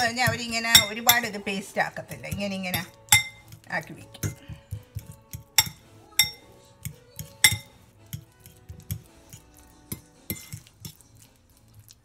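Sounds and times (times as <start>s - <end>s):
fork clinking against ceramic bowl: 0.0s - 1.3s, 2.3s - 11.0s
fork mashing avocado: 2.1s - 12.0s.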